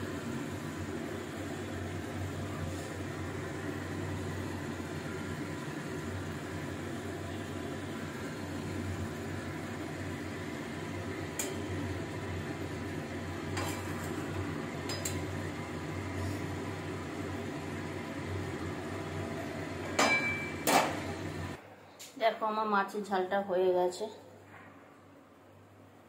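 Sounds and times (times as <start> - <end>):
gas burner hum and hiss: 0.0 - 26.0.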